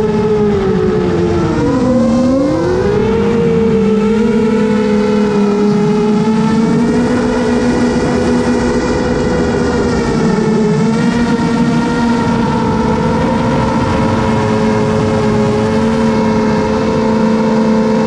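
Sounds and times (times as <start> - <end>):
drone propellers whining: 0.0 - 18.0
low rumble of wind: 0.0 - 18.0.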